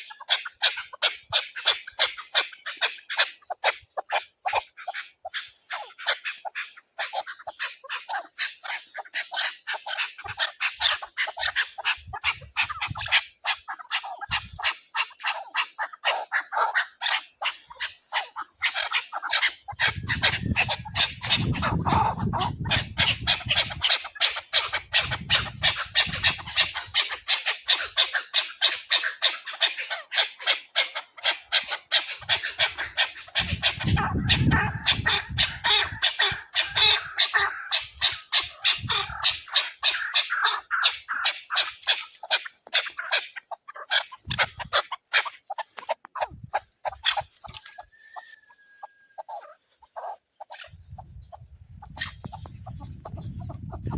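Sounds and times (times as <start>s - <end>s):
partridge calling rapid chuck notes: 0.0s - 48.5s.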